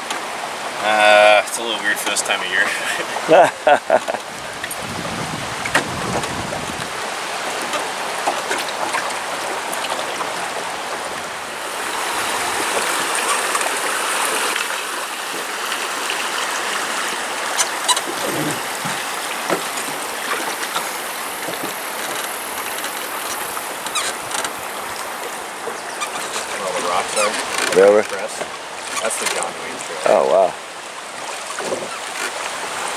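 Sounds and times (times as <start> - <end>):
river water rushing around boat: 0.0 - 32.9.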